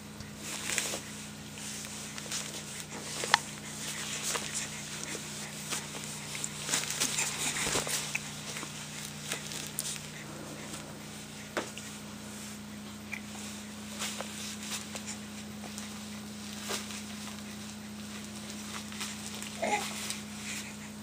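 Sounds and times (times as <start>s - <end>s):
low electrical hum: 0.0s - 21.0s
pet clicks and scuffles: 0.4s - 10.2s, 13.4s - 20.6s.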